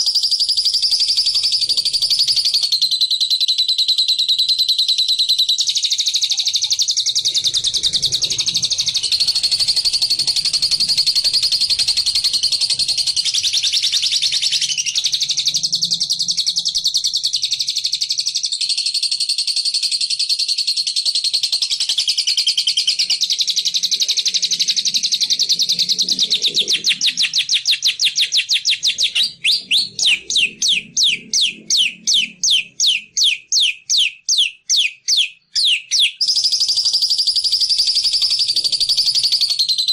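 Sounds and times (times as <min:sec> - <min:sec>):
songbird chattering trill: 0:00.0 - 0:18.6, 0:19.9 - 0:39.9.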